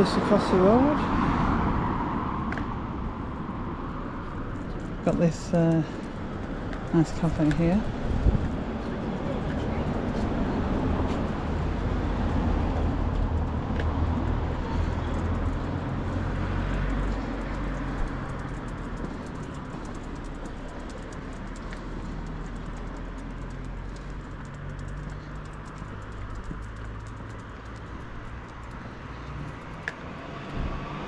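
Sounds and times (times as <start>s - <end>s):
road noise: 0.0s - 31.0s
vehicle engine rumble: 0.0s - 31.0s.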